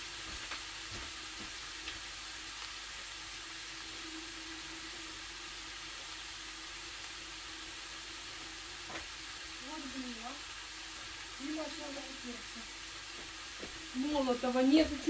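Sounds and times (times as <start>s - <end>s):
chicken and onion sizzling in pan: 0.0s - 15.0s.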